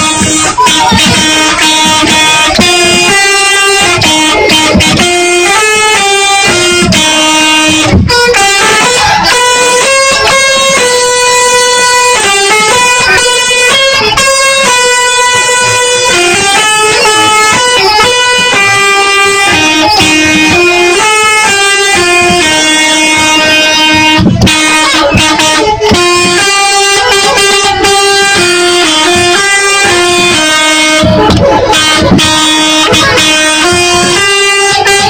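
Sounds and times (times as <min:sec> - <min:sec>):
multi-tone bus horn tune: 0:00.0 - 0:35.0.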